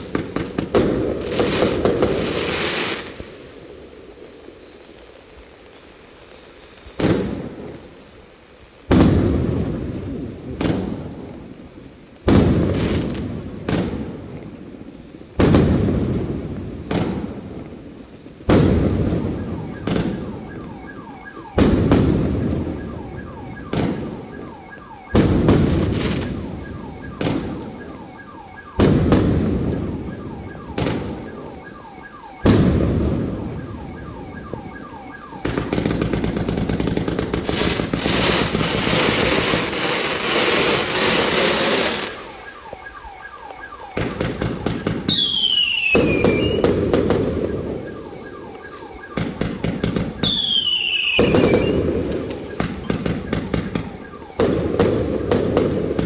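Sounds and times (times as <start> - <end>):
fireworks shots: 0.0 - 3.6, 7.0 - 8.0, 8.8 - 11.5, 12.2 - 14.6, 15.4 - 56.0
fireworks pops and crackle: 0.0 - 8.1, 8.8 - 20.7, 21.3 - 27.8, 28.5 - 30.2, 30.8 - 31.5, 32.4 - 33.6, 35.4 - 47.9, 48.5 - 56.0.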